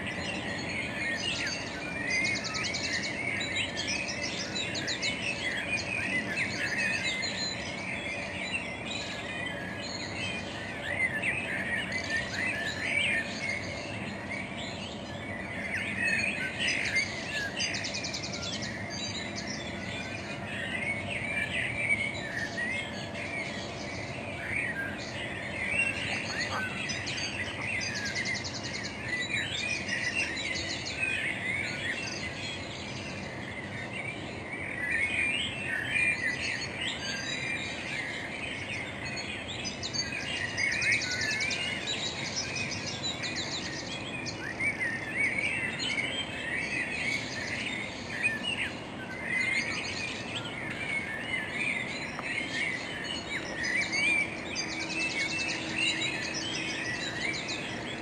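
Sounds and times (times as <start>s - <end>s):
high buzzing bird trills: 0.0s - 58.0s
songbirds singing and chirping: 0.0s - 58.0s.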